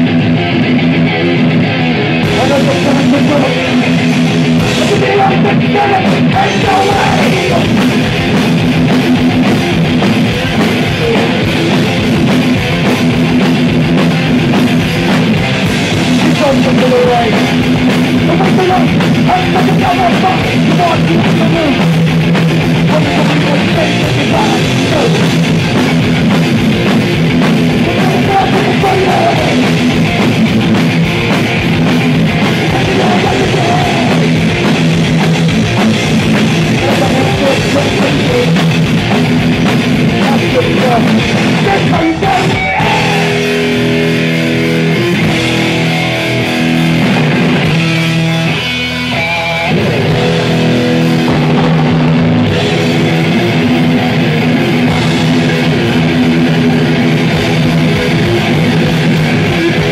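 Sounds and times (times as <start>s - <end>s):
thrash band playing live: 0.0s - 59.9s.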